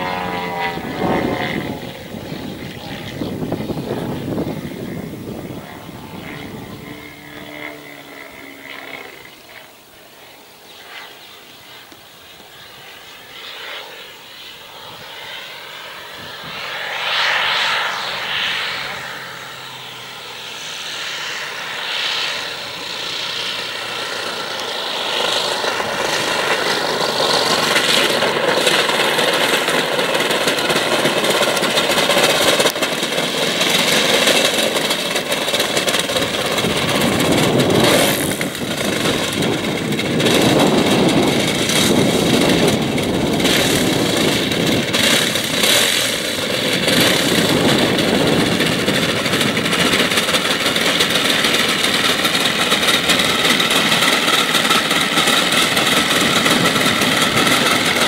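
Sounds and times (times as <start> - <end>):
model plane engine and propeller: 0.0 - 58.0.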